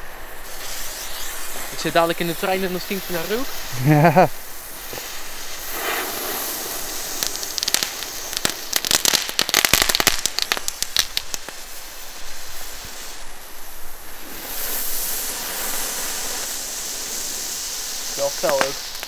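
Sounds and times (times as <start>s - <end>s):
firework crackling snaps: 0.0s - 19.0s
firework hissing: 0.0s - 19.0s.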